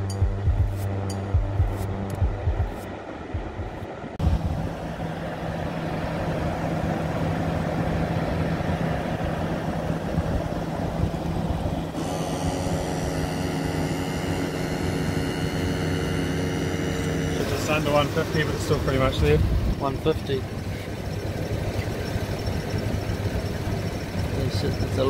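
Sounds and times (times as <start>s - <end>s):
high-pitched whine: 0.0s - 25.0s
air compressor humming: 0.2s - 25.0s.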